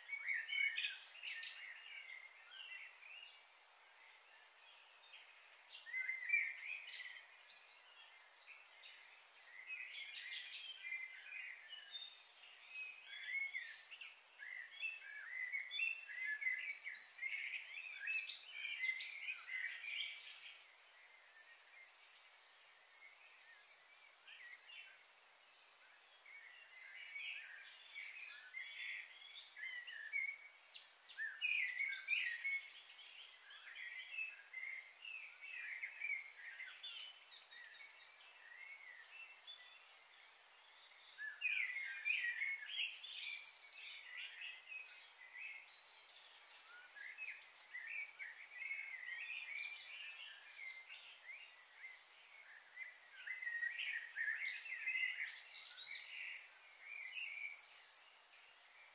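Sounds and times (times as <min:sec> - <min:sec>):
faint steady hiss: 0:00.0 - 0:58.9
small birds chirping: 0:00.0 - 0:58.9.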